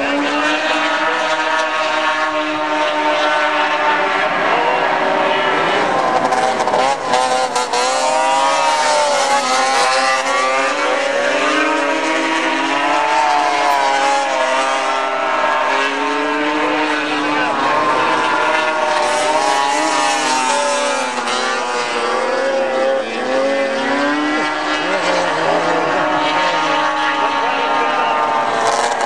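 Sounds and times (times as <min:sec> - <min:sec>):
snowmobile engines at high revs: 0:00.0 - 0:29.0.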